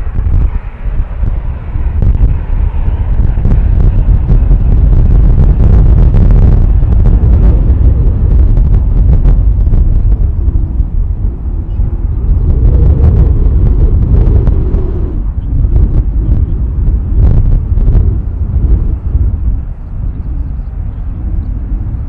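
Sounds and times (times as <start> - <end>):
gusty wind buffeting microphone: 0.0 - 22.0
jet engines idling: 0.0 - 22.0.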